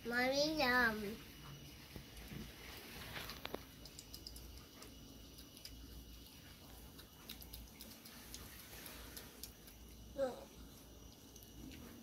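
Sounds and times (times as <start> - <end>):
low room hum: 0.0 - 12.0
children chewing: 1.4 - 12.0.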